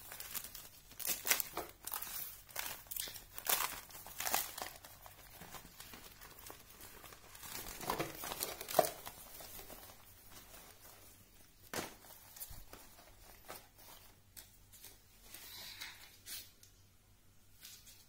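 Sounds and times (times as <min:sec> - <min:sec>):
sharp plastic crackle: 0:00.0 - 0:15.0
thin plastic crinkling: 0:00.0 - 0:16.8.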